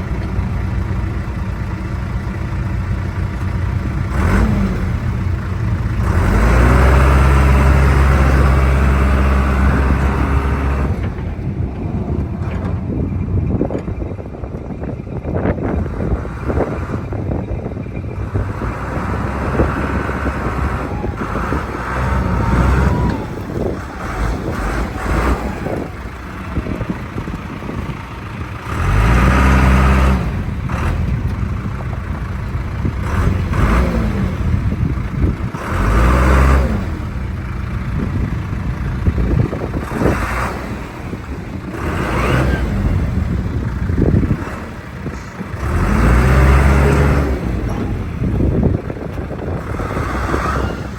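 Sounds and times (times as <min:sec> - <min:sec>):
diesel engine revving: 0:00.0 - 0:50.9.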